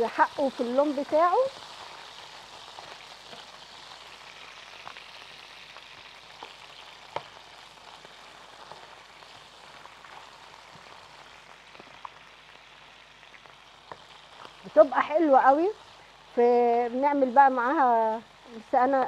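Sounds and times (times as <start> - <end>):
liver sizzling in hot oil: 0.0 - 19.0.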